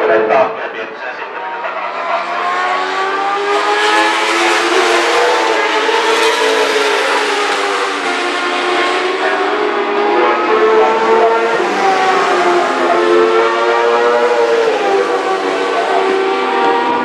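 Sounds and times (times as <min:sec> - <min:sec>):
racing sidecar engines at high revs: 0:01.2 - 0:17.0.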